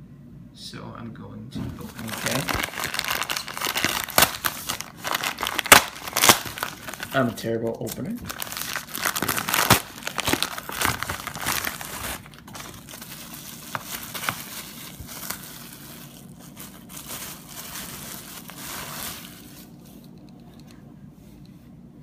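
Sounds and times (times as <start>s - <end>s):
packaging tearing and crinkling: 1.8s - 19.8s.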